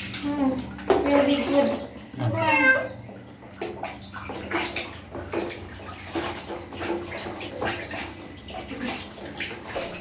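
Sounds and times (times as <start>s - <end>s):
water splashing in a plastic basin: 0.0s - 10.0s.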